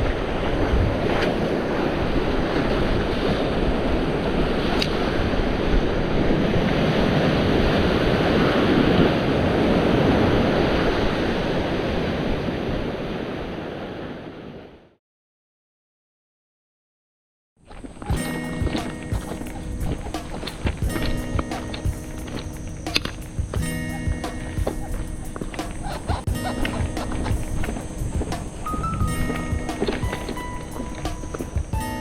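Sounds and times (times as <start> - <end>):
surf washing on rocky shore: 0.0 - 14.7, 17.7 - 32.0
wind buffeting microphone: 0.0 - 14.7, 17.8 - 32.0.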